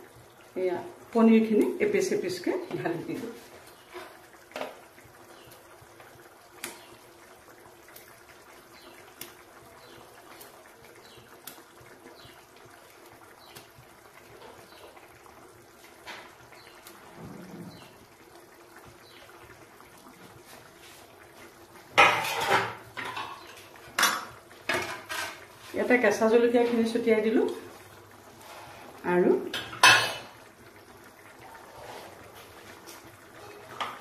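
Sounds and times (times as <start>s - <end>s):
gravy simmering in a frying pan: 0.0s - 34.0s.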